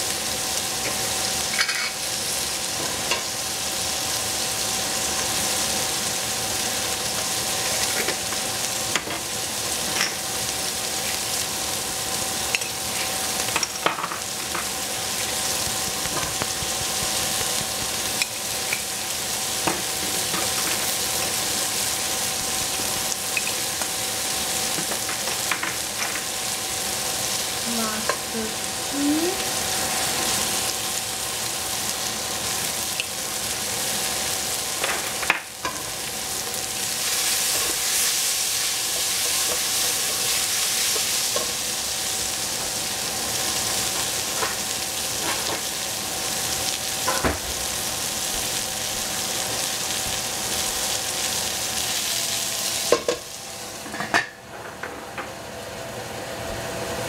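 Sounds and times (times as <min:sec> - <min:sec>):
onions sizzling in a pot: 0:00.0 - 0:57.0.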